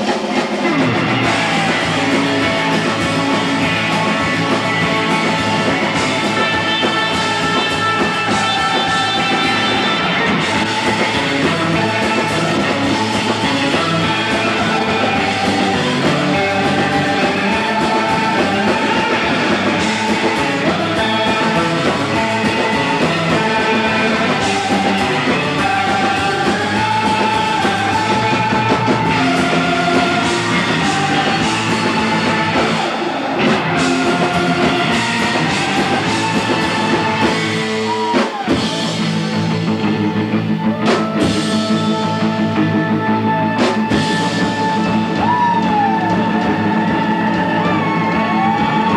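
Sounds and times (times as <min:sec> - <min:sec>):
surf rock band playing: 0:00.0 - 0:48.9.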